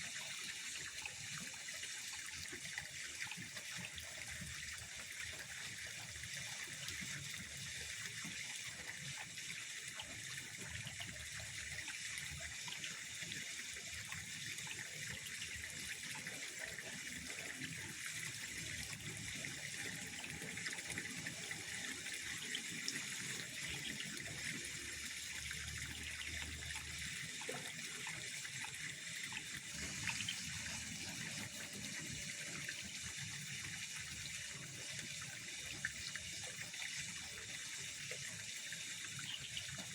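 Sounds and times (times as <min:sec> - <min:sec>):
pond water trickling: 0:00.0 - 0:39.9.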